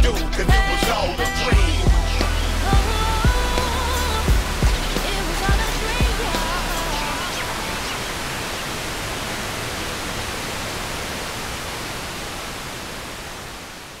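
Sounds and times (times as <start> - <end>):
static hiss: 1.6 - 14.0.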